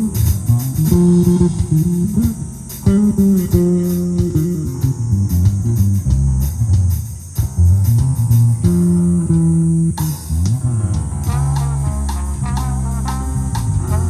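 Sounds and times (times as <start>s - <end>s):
bass melodic line: 0.0s - 14.0s
drum cymbals: 0.0s - 14.0s
jazz combo playing: 0.0s - 14.0s.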